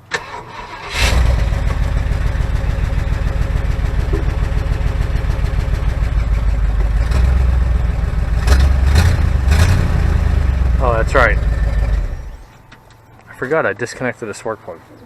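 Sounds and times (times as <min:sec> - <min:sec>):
truck engine idling with misfires: 0:00.0 - 0:13.0.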